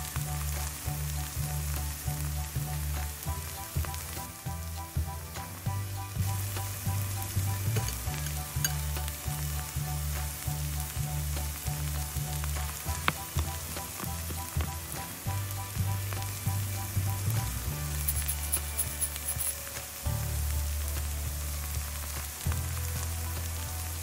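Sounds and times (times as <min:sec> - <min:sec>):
background music: 0:00.0 - 0:24.0
food frying and sizzling: 0:00.0 - 0:24.0.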